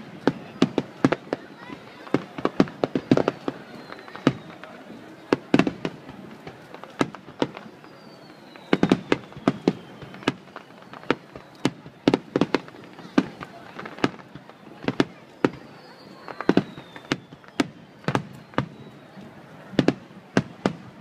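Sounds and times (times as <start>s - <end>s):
firework bangs and crackles: 0.0s - 21.0s
falling firework whistle: 0.2s - 6.0s, 7.0s - 21.0s.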